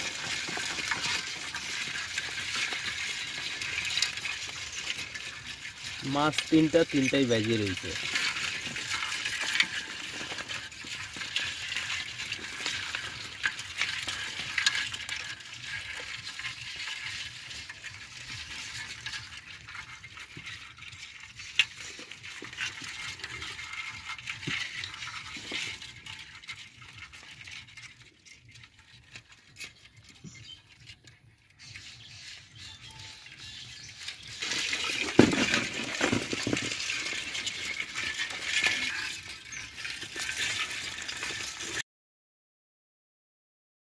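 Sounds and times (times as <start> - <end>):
wet net shaken over bowl: 0.0 - 30.4, 31.7 - 41.8
small patters and clicks: 0.0 - 41.8.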